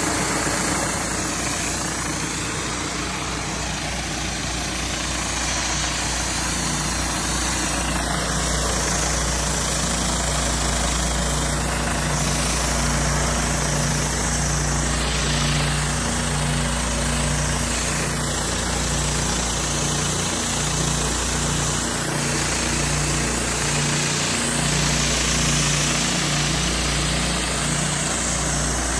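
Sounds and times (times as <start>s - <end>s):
pressure washer engine running: 0.0s - 28.9s
spray jets hissing: 0.0s - 28.9s.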